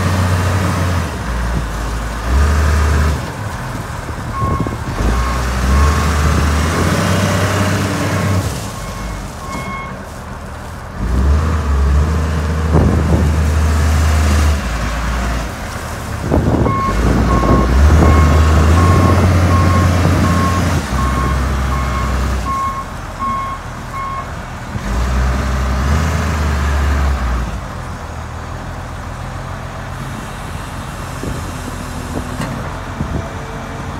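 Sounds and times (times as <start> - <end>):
wheel loader engine: 0.0 - 33.9.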